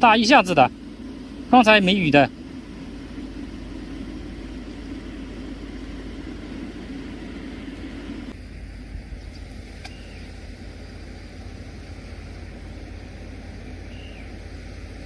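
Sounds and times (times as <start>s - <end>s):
low rumbling: 0.0s - 15.0s.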